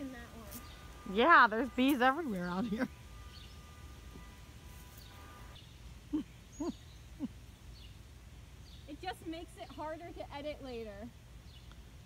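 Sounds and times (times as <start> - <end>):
faint steady hum: 0.0 - 12.0
small birds chirping: 0.0 - 12.0.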